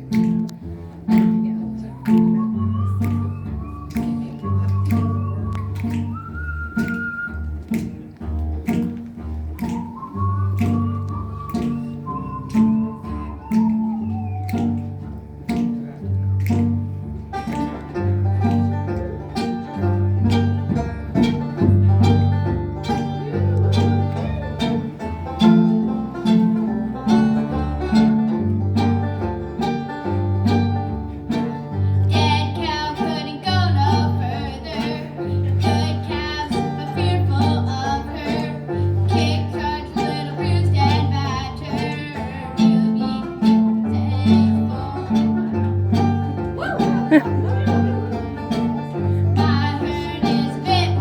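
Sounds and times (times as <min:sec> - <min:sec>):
picked banjo: 0:00.0 - 0:51.0
strummed guitar: 0:00.0 - 0:51.0.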